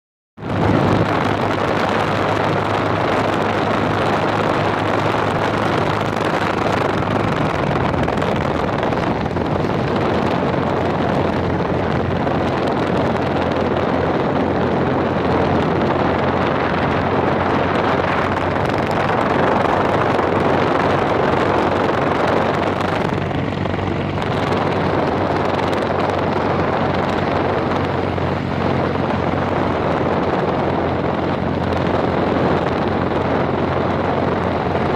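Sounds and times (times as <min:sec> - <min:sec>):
motorcycle engine running: 0:00.4 - 0:34.9
wind buffeting microphone: 0:00.4 - 0:34.9.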